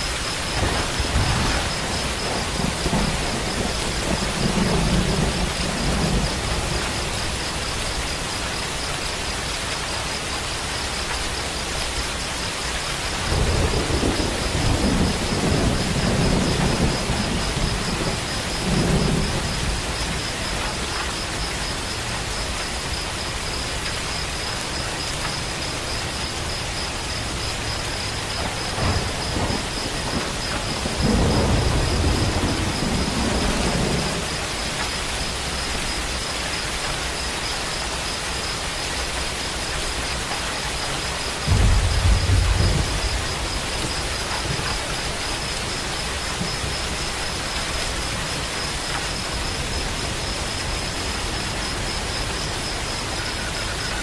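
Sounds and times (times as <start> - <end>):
thunder rumbling: 0.0 - 12.0, 13.0 - 37.3, 38.4 - 54.0
heavy rain: 0.0 - 54.0.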